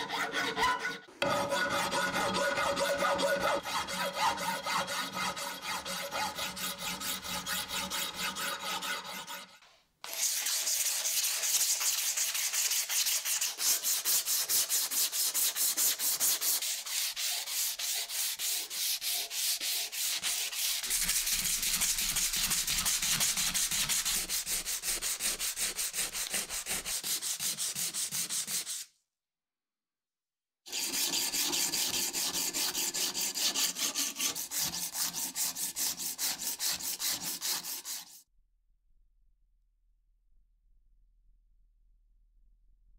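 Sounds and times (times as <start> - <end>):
sandpaper rasping on wood: 0.0 - 28.9, 30.7 - 38.2.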